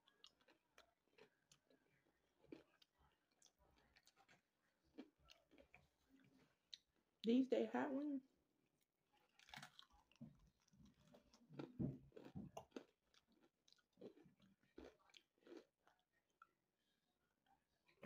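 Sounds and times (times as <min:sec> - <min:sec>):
person chewing chicken wings: 0:00.0 - 0:07.0, 0:09.1 - 0:16.6.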